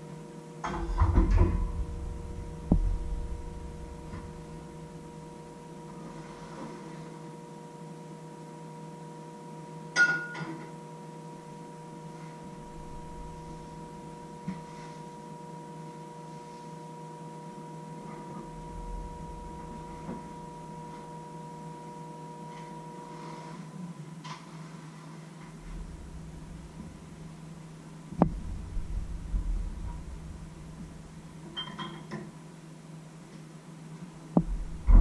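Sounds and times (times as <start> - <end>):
steady electrical hum: 0.0 - 35.0.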